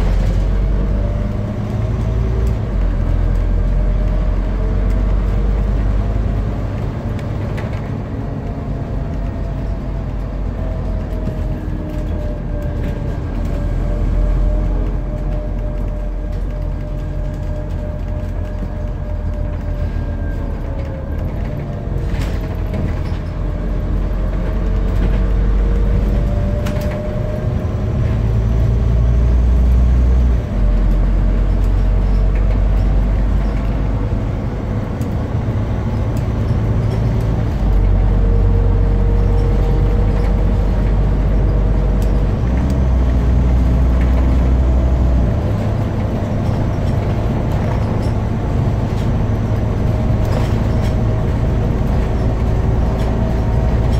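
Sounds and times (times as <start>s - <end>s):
bus engine droning: 0.0s - 53.9s.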